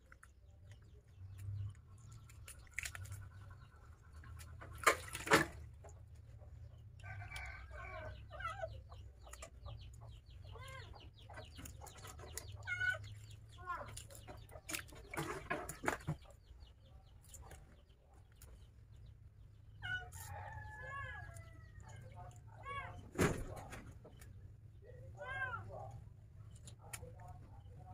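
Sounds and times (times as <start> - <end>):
chickens clucking: 0.1 - 25.0.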